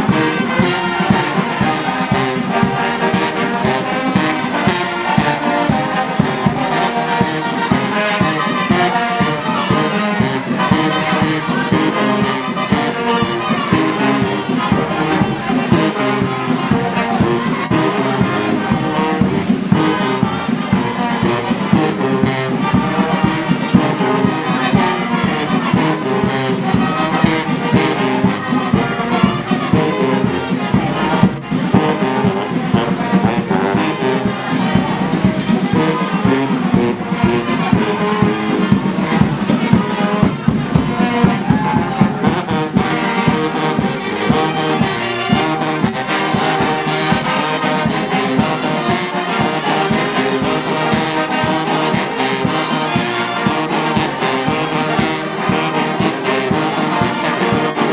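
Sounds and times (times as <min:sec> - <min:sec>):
brass band playing marching music: 0:00.0 - 0:57.9.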